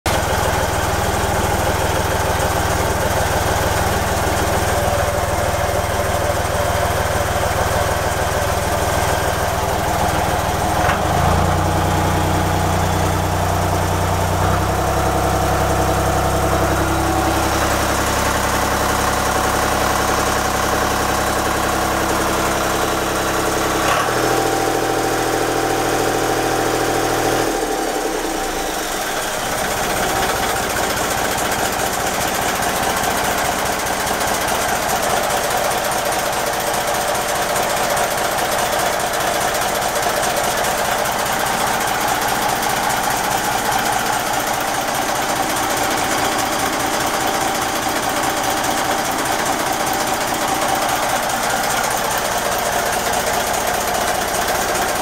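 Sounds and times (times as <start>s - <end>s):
marine diesel engine running: 0.1s - 55.0s.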